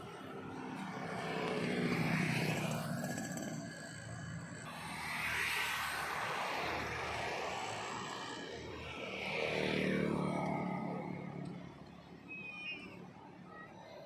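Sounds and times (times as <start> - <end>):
engine hum: 0.0 - 14.0
vehicles passing: 0.0 - 14.0.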